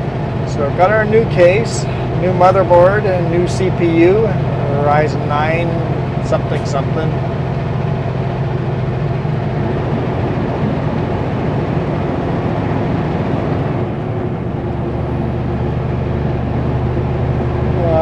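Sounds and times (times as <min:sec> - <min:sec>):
road noise: 0:00.0 - 0:18.0
truck diesel engine droning: 0:00.0 - 0:18.0.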